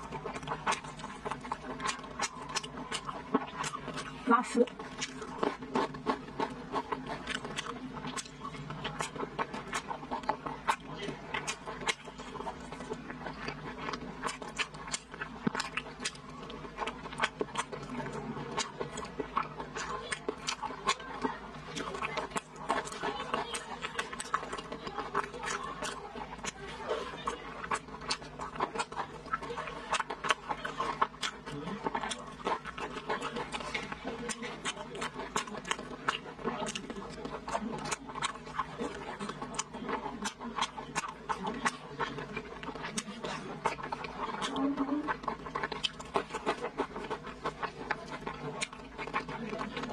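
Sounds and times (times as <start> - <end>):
close chewing mouth smacks: 0.0 - 49.9.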